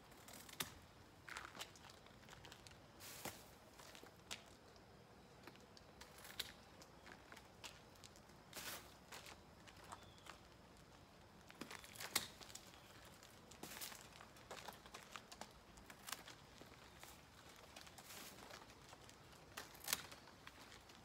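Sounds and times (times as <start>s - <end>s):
fronds rustling and crackling: 0.1s - 21.0s.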